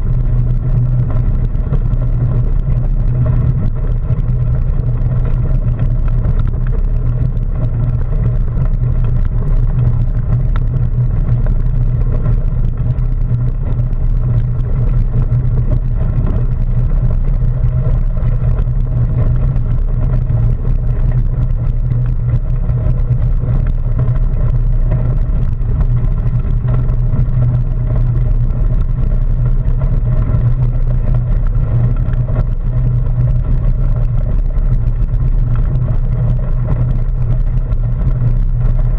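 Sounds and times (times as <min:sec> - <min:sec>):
bike vibrating: 0:00.0 - 0:38.9.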